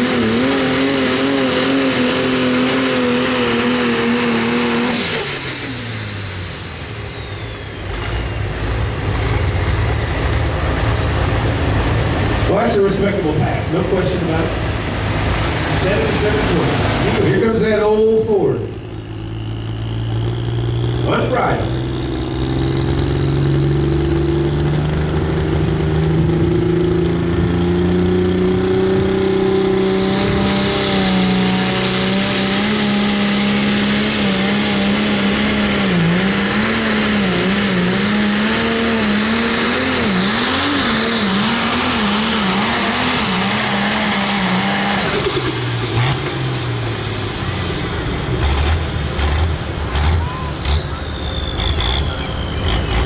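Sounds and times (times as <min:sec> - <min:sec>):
high whine: 0:00.0 - 0:53.0
tractor diesel engine at full power: 0:00.0 - 0:53.0.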